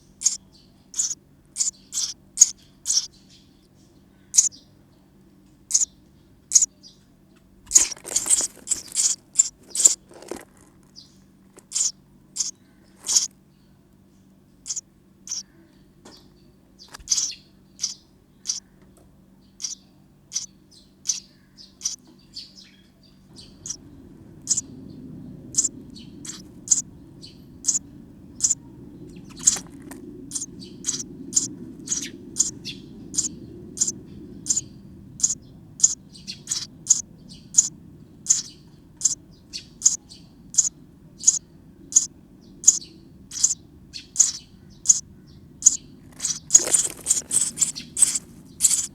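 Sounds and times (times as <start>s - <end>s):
nestlings chirping: 0.0s - 4.7s, 5.7s - 7.0s, 7.7s - 13.3s, 14.6s - 15.5s, 16.8s - 18.7s, 19.4s - 22.7s, 23.3s - 48.9s.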